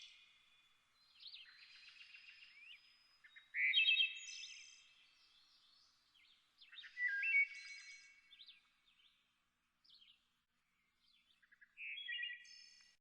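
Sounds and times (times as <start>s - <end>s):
birds singing chirps and trills: 0.0s - 13.0s.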